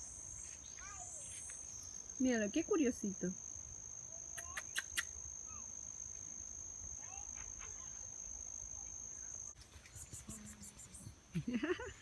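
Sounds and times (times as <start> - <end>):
insect high-pitched trill: 0.0 - 11.9.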